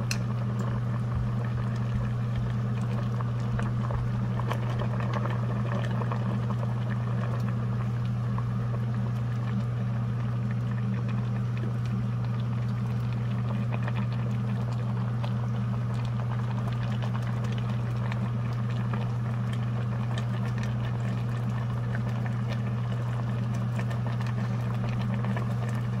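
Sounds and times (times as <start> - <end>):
soup bubbling in a pot: 0.0 - 26.0.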